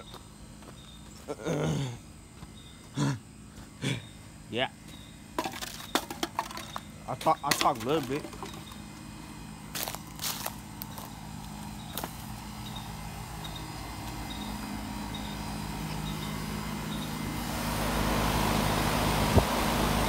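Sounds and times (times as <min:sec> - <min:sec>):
air conditioner fan humming: 0:00.0 - 0:20.0.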